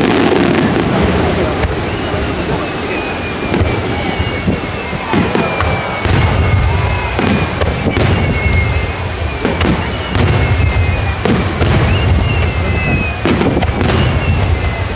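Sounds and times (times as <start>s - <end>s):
deep rumbling boom: 0.0s - 14.9s
fireworks bangs and cracks: 0.0s - 14.9s.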